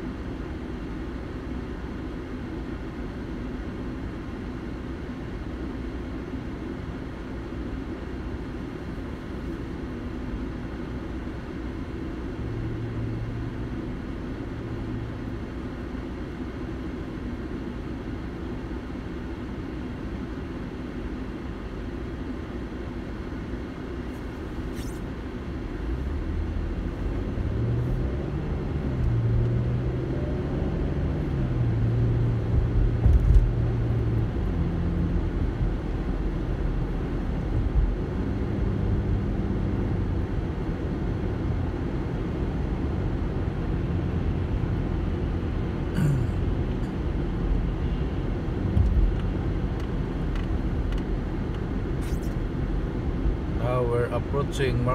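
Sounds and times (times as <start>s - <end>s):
car engine hum: 0.0s - 54.9s
road rumble: 0.0s - 54.9s.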